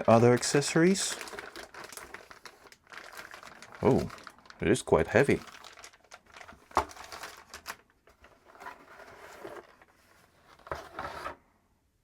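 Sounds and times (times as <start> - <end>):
paper rustling: 0.0 - 11.2.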